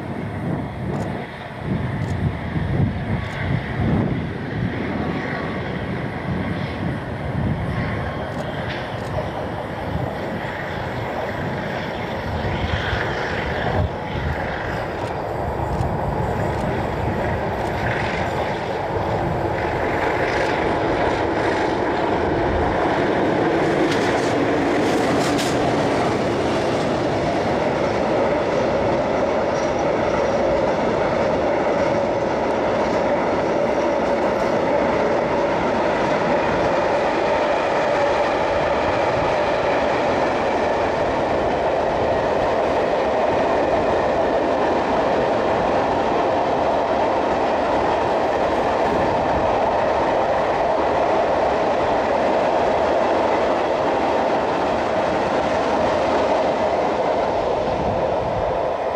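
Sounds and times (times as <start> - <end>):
diesel locomotives passing: 0.0 - 58.9.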